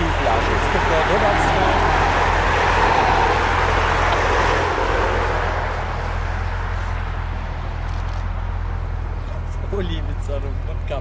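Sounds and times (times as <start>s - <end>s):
jet engines roaring: 0.0s - 9.1s.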